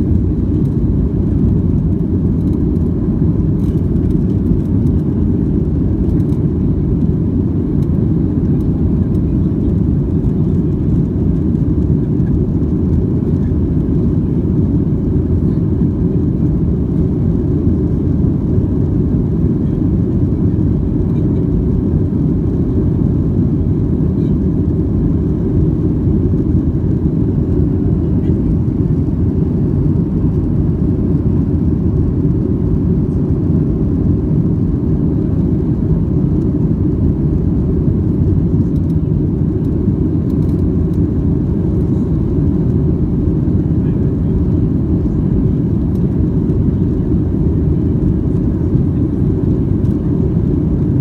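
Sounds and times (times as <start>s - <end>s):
jet engines and rushing air: 0.0s - 51.0s.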